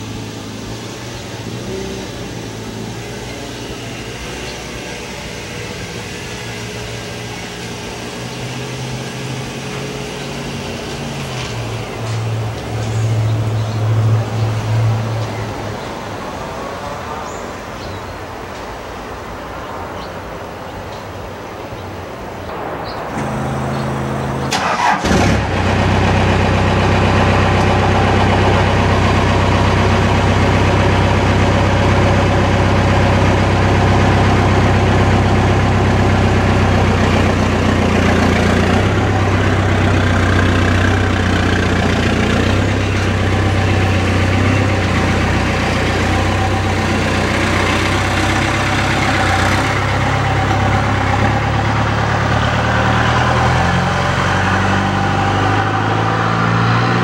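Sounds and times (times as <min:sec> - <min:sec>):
truck engine starting and idling: 0:00.0 - 0:18.5, 0:21.6 - 0:57.0.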